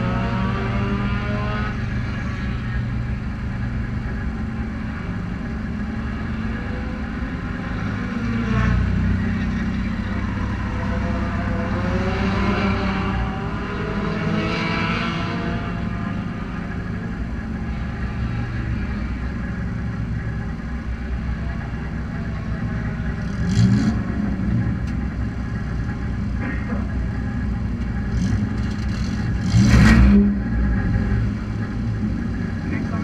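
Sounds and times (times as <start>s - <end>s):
engines revving: 0.0s - 33.0s
race car engines idling: 0.0s - 33.0s.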